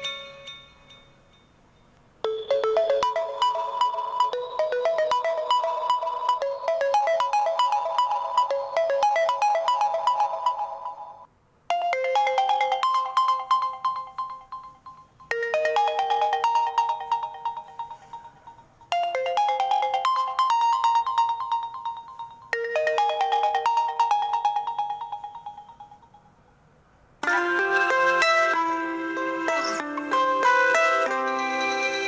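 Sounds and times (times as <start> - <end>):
phone ringtone melody: 0.0 - 26.4, 27.2 - 32.0.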